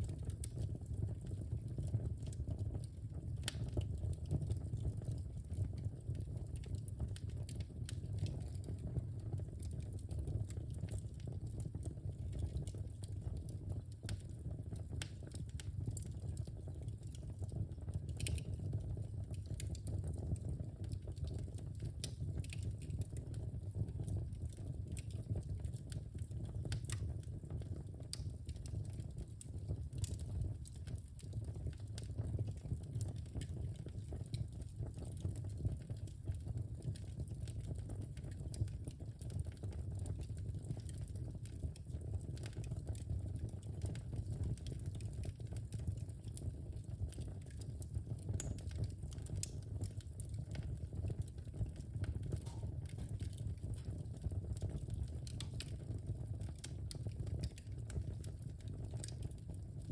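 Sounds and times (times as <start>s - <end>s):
fire pops and snaps: 0.0s - 59.9s
wood fire crackling: 0.0s - 59.9s.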